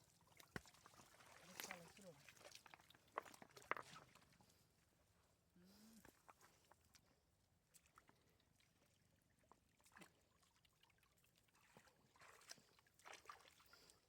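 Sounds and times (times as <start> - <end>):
faint water splashes and trickles: 0.0 - 14.0.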